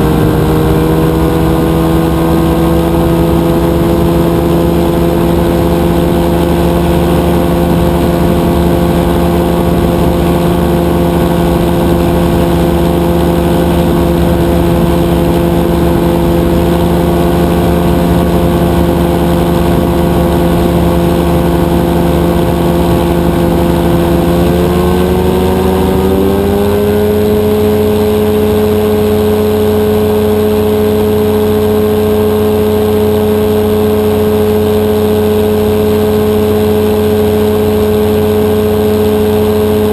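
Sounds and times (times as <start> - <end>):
two-stroke aircraft engine running: 0.0 - 39.9.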